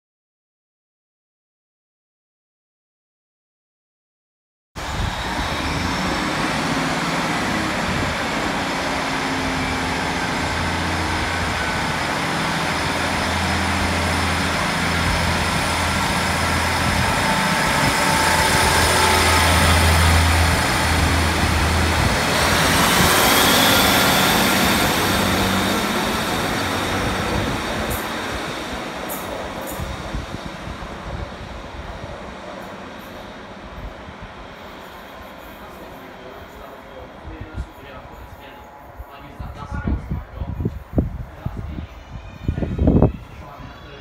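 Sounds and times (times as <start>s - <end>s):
diesel railcar engines throbbing: 4.8s - 44.0s.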